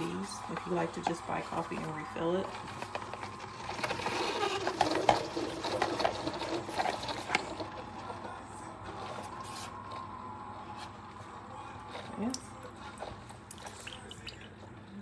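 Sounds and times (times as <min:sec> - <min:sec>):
coffee maker pump running: 0:00.0 - 0:15.0.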